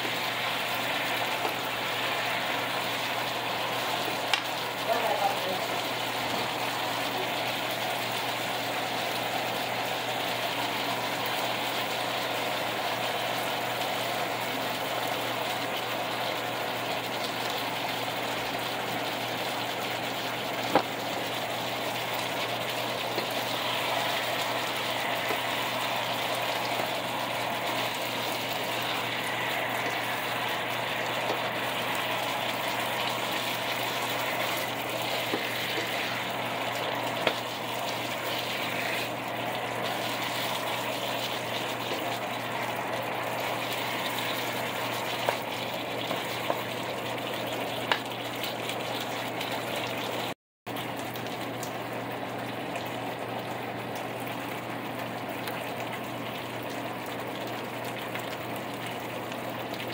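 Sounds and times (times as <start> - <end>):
chicken sizzling in a frying pan: 0.0 - 59.9.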